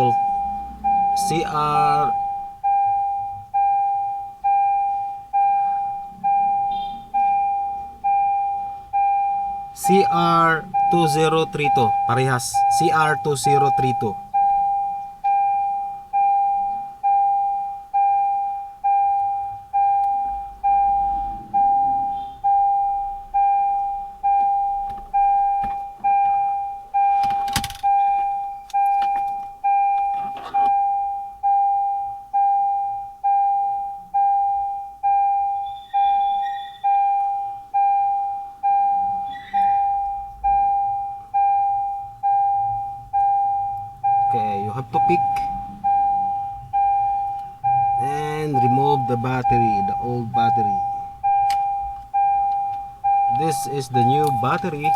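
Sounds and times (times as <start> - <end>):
dashboard warning chime dinging: 0.0 - 54.9.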